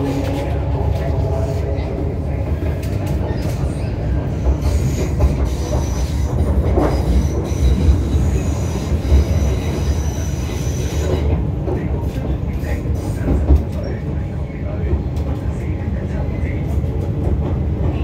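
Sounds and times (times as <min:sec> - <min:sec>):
train clatter: 0:00.0 - 0:18.0
train wheels rumbling on rail: 0:00.0 - 0:18.0.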